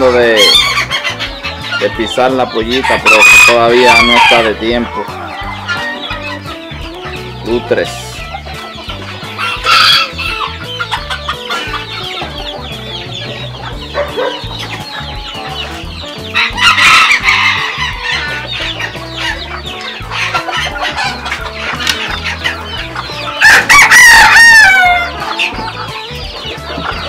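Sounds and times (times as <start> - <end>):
background music with bass line: 0.0 - 27.0
chickens clucking: 0.0 - 27.0
chicks peeping: 0.0 - 27.0.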